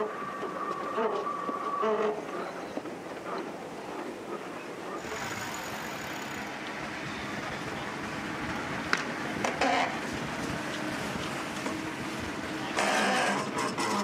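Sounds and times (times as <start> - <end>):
rush of wind and water: 0.0 - 14.0.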